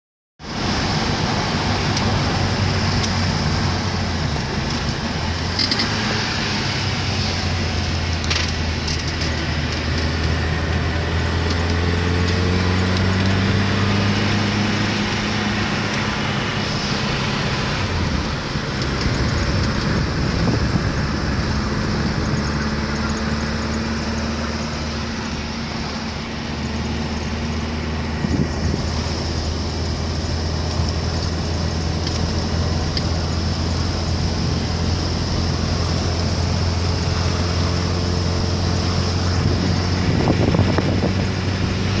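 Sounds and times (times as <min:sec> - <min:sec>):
car engine running on the move: 0:00.4 - 0:42.0.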